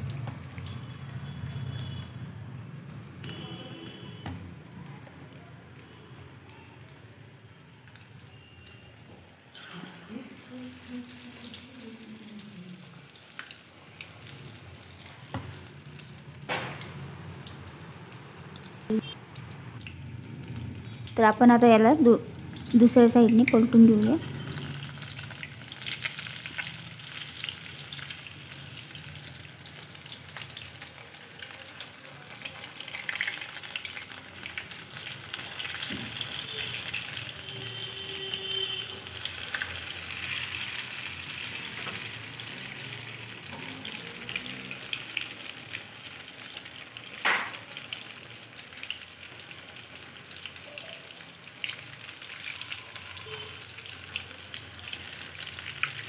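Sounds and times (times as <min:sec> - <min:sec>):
food deep-frying in hot oil: 0:00.0 - 0:56.0.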